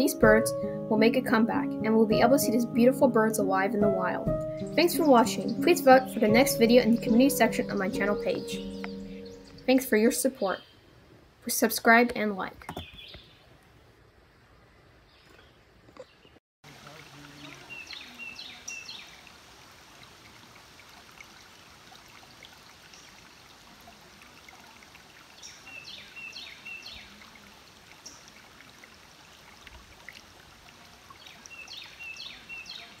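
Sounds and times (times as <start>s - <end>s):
creek running over rocks: 0.0s - 12.5s, 16.6s - 33.0s.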